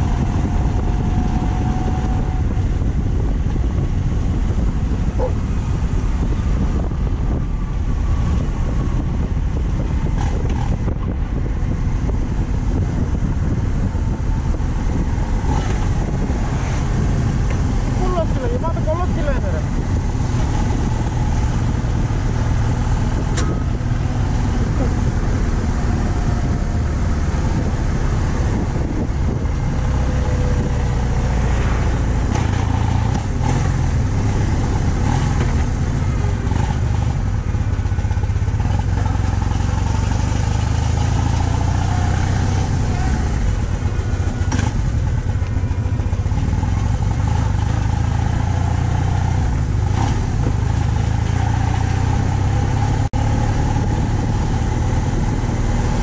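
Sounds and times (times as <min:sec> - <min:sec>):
motorcycle engine cruising: 0:00.0 - 0:56.0
riding wind rush: 0:00.0 - 0:56.0.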